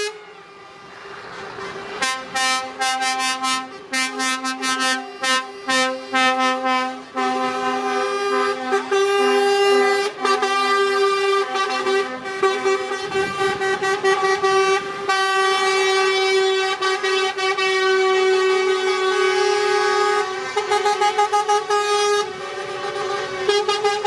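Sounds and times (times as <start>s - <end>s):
truck air horn long blast: 0.0s - 0.9s, 1.5s - 24.0s.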